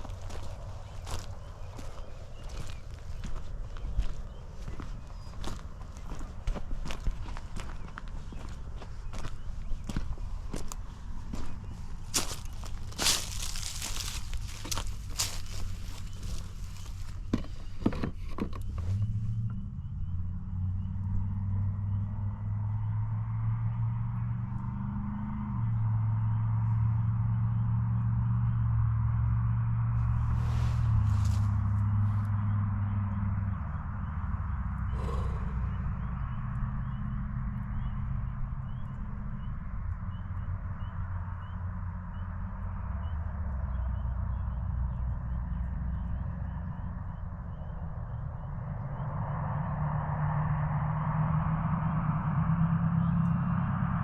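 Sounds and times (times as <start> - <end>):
steady low rumble: 0.0 - 17.8, 25.7 - 54.0
low motor hum: 0.0 - 54.0.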